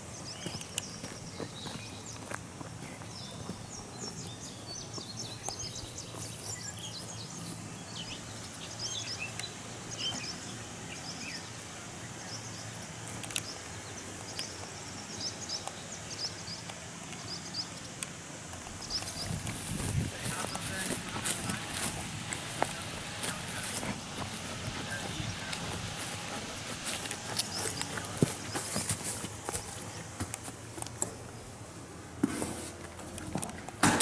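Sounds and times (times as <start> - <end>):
small birds chirping: 0.0 - 31.7
steady low hum: 0.0 - 34.0.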